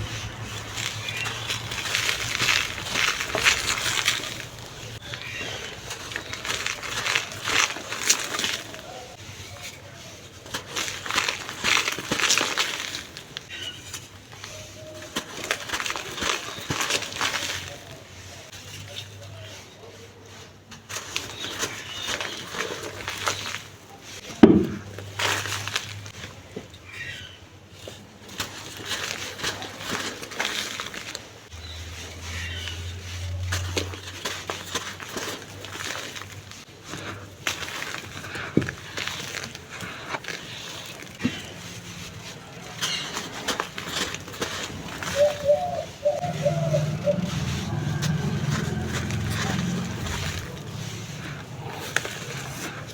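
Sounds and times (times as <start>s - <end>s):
sand crunching: 0.0s - 19.8s, 20.4s - 52.9s.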